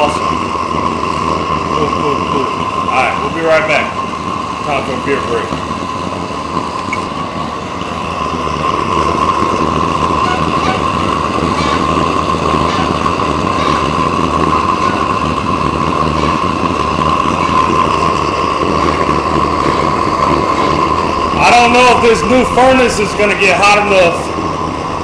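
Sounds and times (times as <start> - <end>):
furnace burner humming: 0.0 - 25.0.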